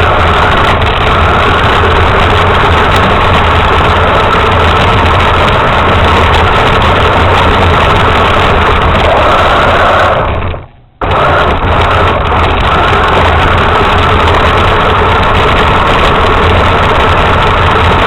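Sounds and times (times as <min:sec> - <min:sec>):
toy truck motor droning: 0:00.0 - 0:18.0.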